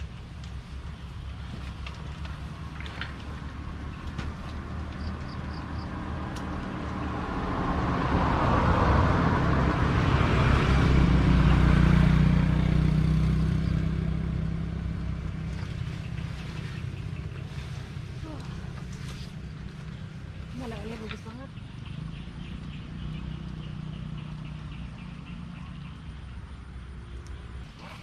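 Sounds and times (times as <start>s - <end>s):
motor vehicle passing by: 0.0s - 28.0s.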